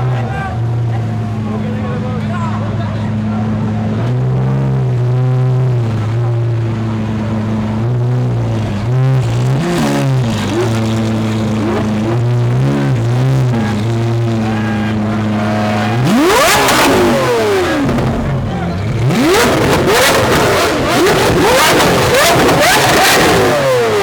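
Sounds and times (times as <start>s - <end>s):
sports car engine revving: 2.6s - 24.0s.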